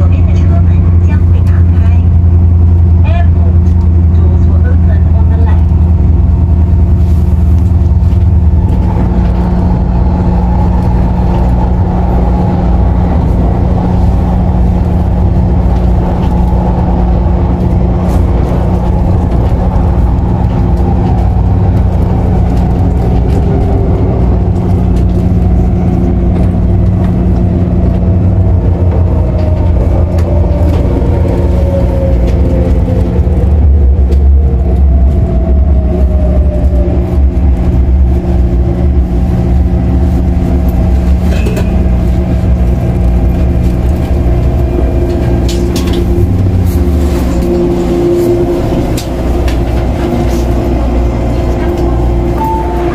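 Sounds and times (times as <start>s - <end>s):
train running noise inside carriage: 0.0s - 52.9s
traction motor whine: 5.2s - 52.9s.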